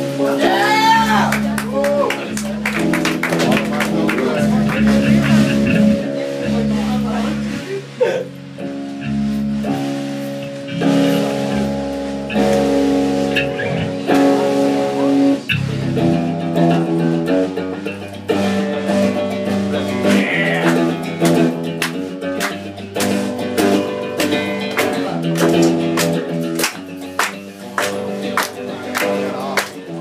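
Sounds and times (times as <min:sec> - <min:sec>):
electric guitar chords: 0:00.0 - 0:30.0.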